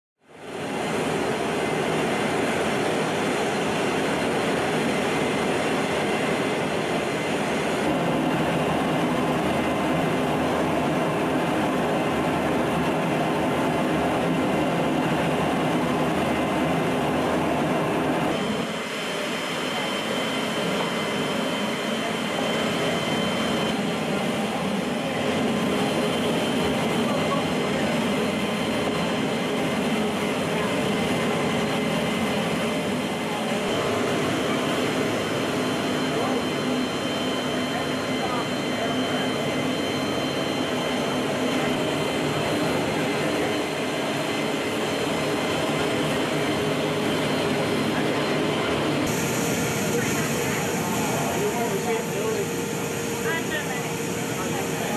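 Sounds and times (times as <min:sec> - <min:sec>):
jet engines droning in cabin: 0:00.2 - 0:54.9.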